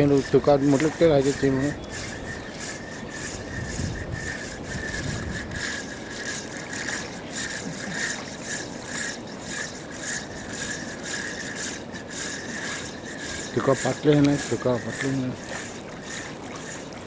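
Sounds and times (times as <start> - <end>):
fishing reel cranked rasping whir: 0.0 - 17.0.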